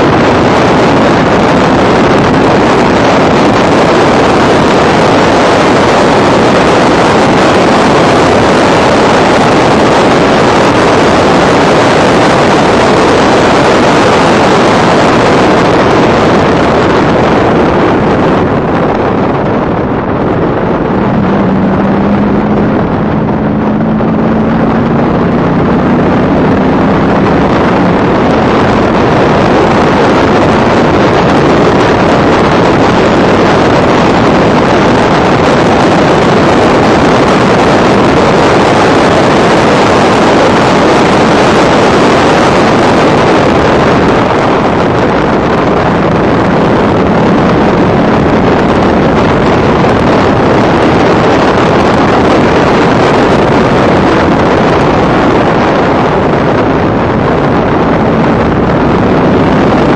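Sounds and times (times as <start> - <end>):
race car engine: 0.0 - 59.9
wind rush on microphone: 0.0 - 59.9.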